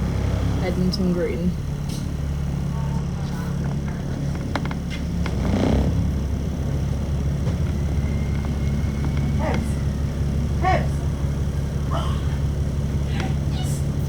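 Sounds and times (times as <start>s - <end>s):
bus engine running: 0.0s - 14.0s.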